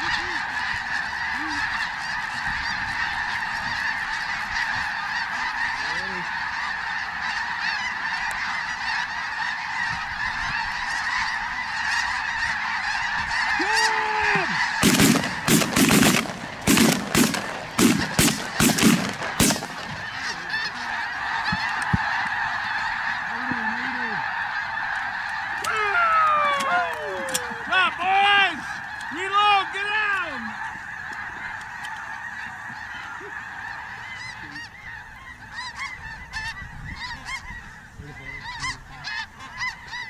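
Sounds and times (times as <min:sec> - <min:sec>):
flock of geese honking: 0:00.0 - 0:40.0.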